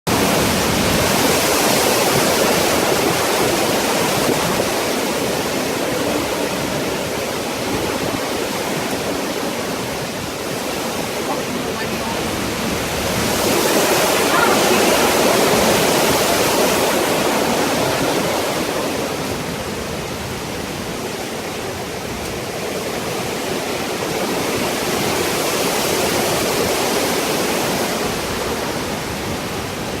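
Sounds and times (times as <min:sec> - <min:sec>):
strong wind and rain: 0:00.1 - 0:30.0.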